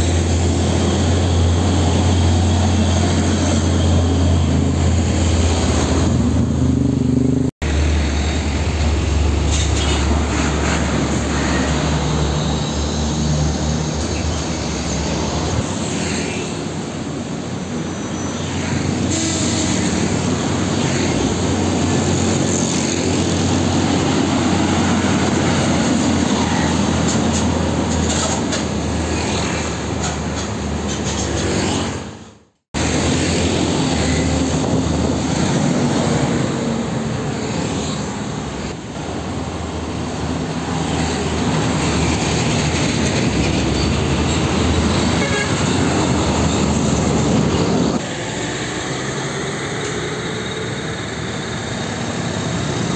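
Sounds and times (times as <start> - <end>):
heavy diesel trucks passing: 0.0 - 52.9.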